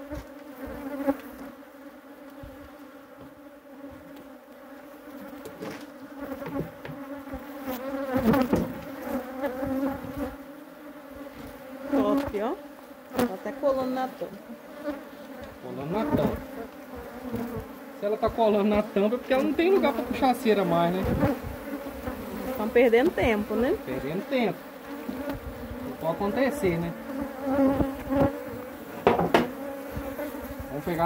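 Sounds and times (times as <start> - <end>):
bee colony buzzing: 0.0 - 31.0
bees flying close by: 0.0 - 31.0.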